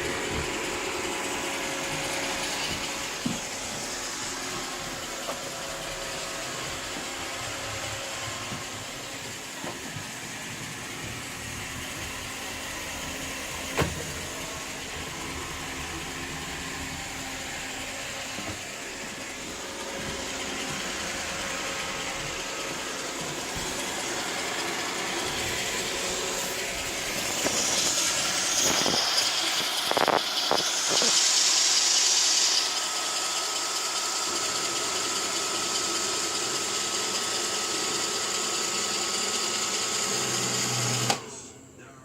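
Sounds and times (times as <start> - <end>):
robot vacuum running: 0.0 - 41.3.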